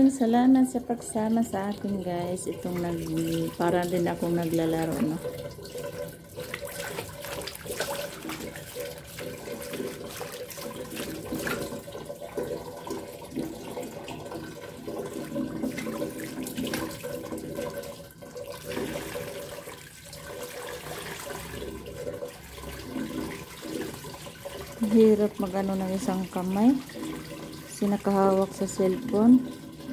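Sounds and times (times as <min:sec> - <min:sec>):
hose water splashing into basin: 0:00.0 - 0:29.9.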